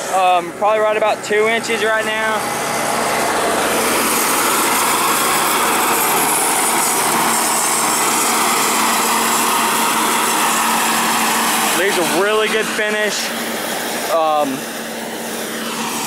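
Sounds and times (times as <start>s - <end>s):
mower cutting grass: 0.0s - 16.0s
tractor diesel engine running: 0.0s - 16.0s.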